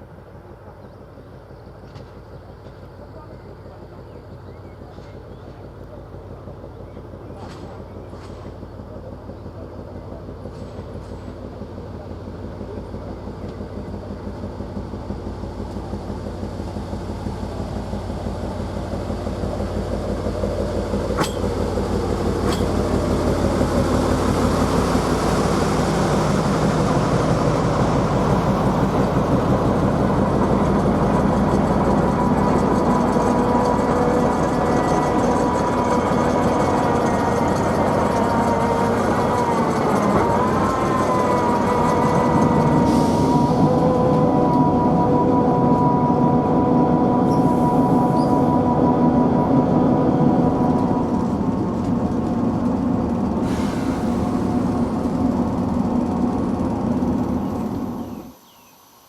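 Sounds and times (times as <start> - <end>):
diesel railcar running: 0.0 - 59.0
engine whine: 10.0 - 59.0.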